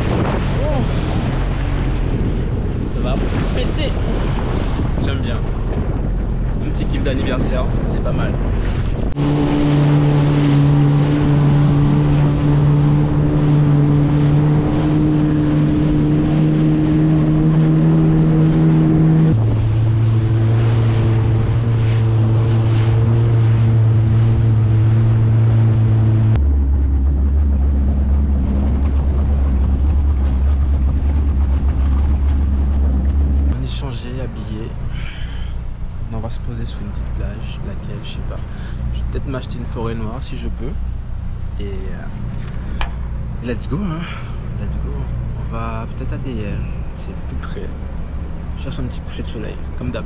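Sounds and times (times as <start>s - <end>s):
jet ski engine running: 0.0s - 50.0s
wind and water rushing: 0.0s - 50.0s.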